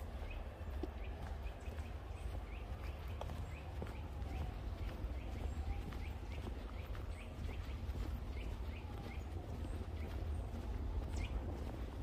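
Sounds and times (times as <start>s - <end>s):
bird chirping: 0.0s - 12.0s
footsteps on forest path: 0.0s - 12.0s.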